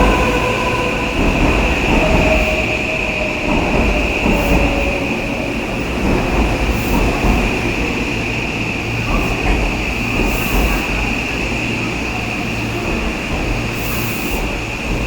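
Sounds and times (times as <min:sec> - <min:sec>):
high-pitched train whine: 0:00.0 - 0:15.0
train wheels rumbling: 0:00.0 - 0:15.0.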